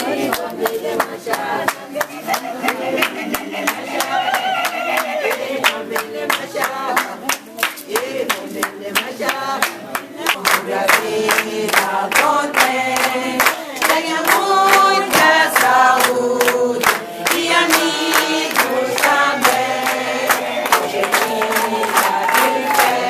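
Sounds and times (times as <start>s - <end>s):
group singing in chorus: 0.0s - 23.0s
rhythmic hand-clapping: 0.0s - 23.0s.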